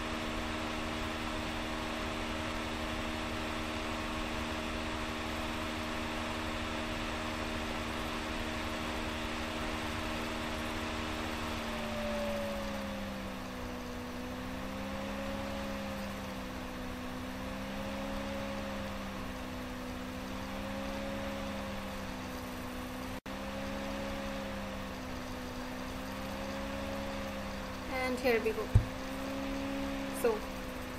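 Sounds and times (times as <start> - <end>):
machine hum and hiss: 0.0 - 30.9.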